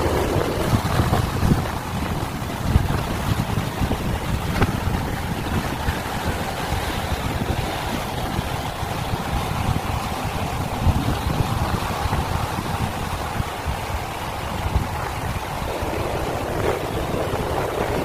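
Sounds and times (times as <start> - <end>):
sea surf against rocks: 0.0 - 18.0
wind buffeting microphone: 0.0 - 18.0.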